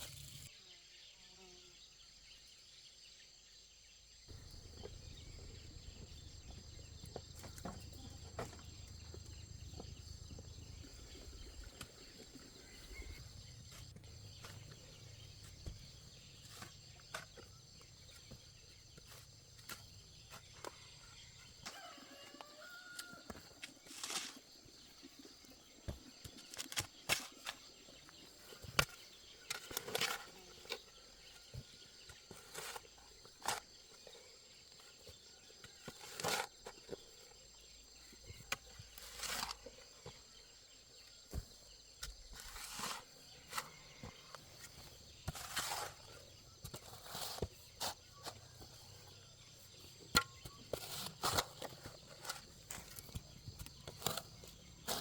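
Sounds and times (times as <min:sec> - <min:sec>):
insects droning: 0:04.3 - 0:55.0.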